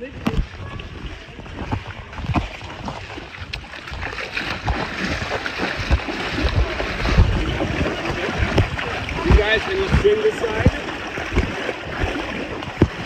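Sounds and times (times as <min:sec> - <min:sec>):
low rumbling on microphone: 0:00.0 - 0:13.0
water splashing around rafts: 0:00.0 - 0:13.0.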